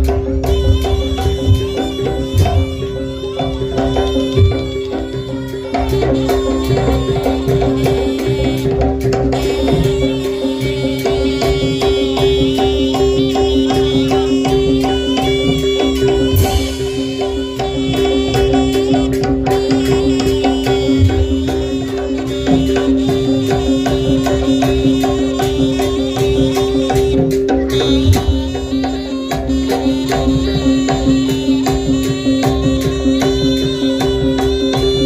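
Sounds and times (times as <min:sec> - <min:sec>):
gamelan music: 0:00.0 - 0:35.0
hand drum strokes: 0:00.0 - 0:35.0
metallophone notes: 0:00.0 - 0:35.0.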